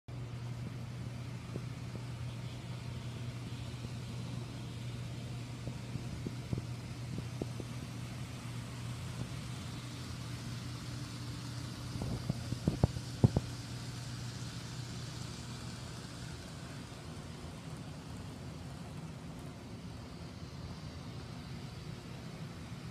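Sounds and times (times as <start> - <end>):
model train hum: 0.1 - 22.9.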